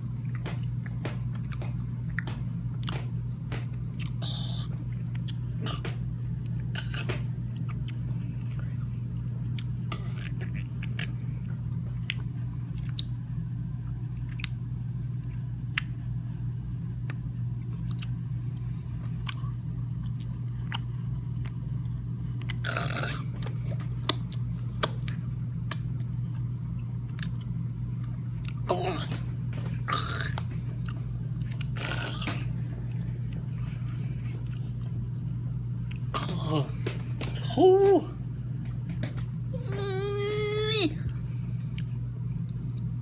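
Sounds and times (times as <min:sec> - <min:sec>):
person chewing and crunching: 0:00.0 - 0:16.0, 0:16.8 - 0:37.8, 0:41.0 - 0:43.0
low hum: 0:00.0 - 0:43.0.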